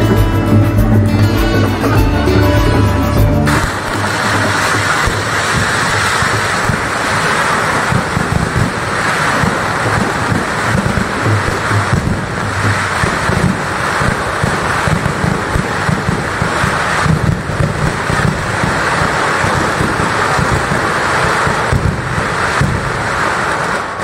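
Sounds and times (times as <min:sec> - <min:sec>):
fireworks barrage: 0:00.0 - 0:24.0
steady hiss: 0:03.5 - 0:24.0.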